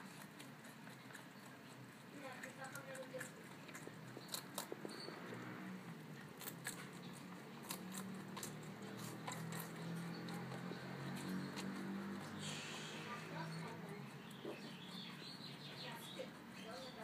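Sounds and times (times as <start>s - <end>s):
rabbit crunching stalk: 0.0s - 17.0s.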